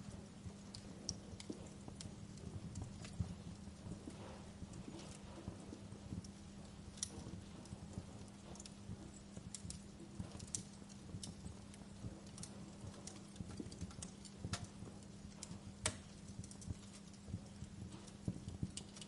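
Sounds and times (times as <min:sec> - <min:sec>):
faint steady hum: 0:00.0 - 0:19.0
fire crackling: 0:00.0 - 0:19.0.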